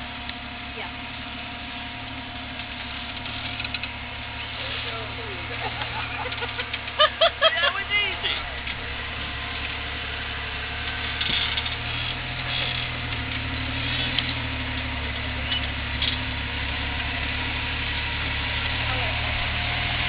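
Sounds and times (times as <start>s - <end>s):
buggy engine running at low revs: 0.0s - 20.0s.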